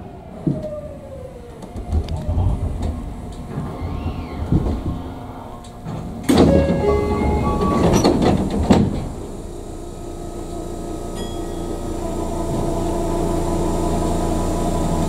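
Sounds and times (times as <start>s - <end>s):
steady tones: 0.0s - 14.8s
train rumbling to a stop: 0.0s - 15.0s.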